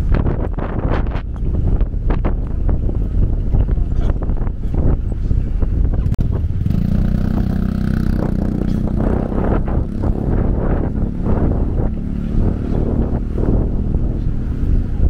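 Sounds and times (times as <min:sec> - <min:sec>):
vehicle engine running: 0:00.0 - 0:15.0
wind buffeting microphone: 0:00.0 - 0:15.0.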